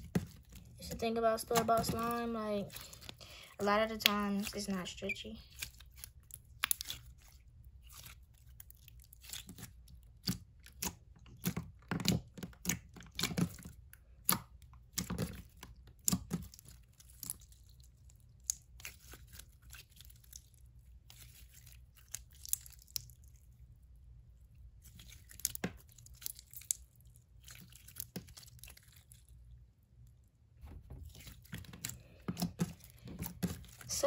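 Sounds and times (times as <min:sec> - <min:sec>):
slime squished by hand: 0:00.0 - 0:29.6.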